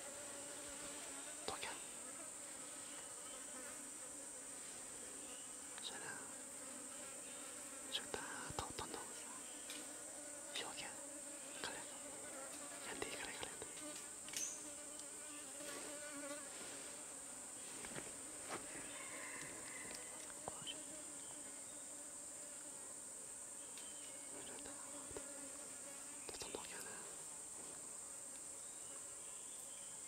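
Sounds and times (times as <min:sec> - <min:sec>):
low faint insect buzz: 0:00.0 - 0:30.0.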